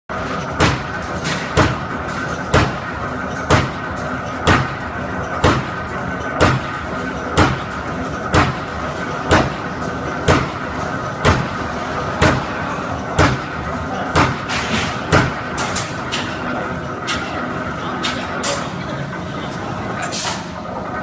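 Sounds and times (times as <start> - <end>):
machine running noise: 0.1 - 21.0
punching machine bang: 0.2 - 17.4.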